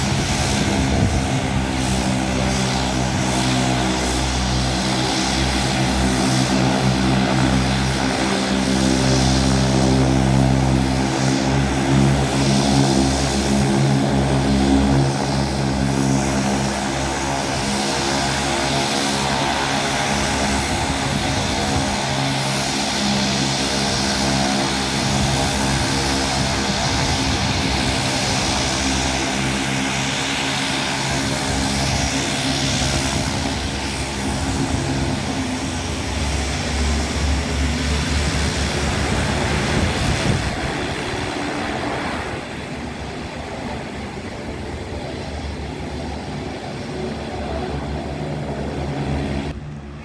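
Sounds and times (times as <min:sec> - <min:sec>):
turboprop engines droning: 0:00.0 - 0:50.0.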